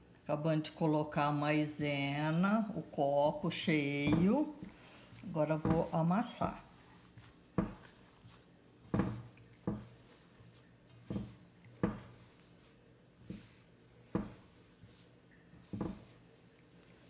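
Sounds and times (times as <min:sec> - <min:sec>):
hands kneading dough in metal bowl: 0:00.6 - 0:17.0.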